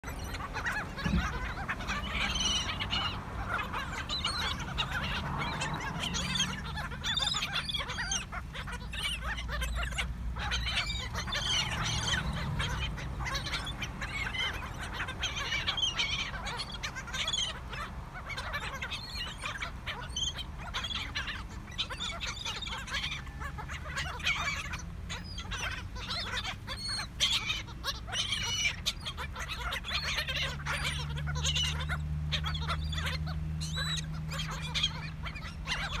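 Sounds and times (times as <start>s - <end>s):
gulls squawking: 0.0s - 36.0s.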